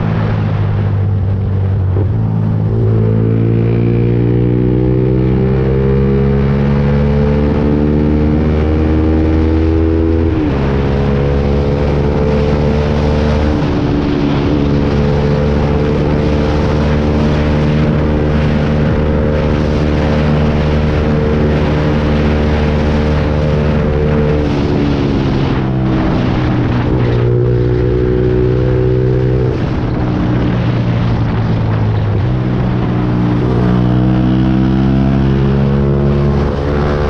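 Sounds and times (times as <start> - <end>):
motorcycle engine: 0.0 - 37.0
wind rush: 0.0 - 37.0.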